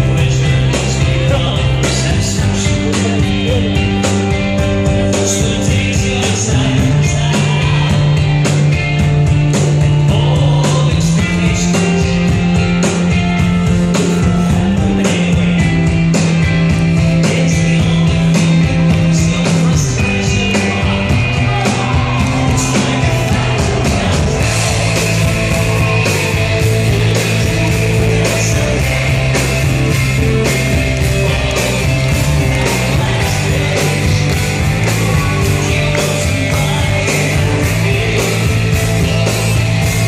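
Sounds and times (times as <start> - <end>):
bass guitar long notes: 0.0 - 40.0
electric guitars: 0.0 - 40.0
steady drum beat: 0.0 - 40.0.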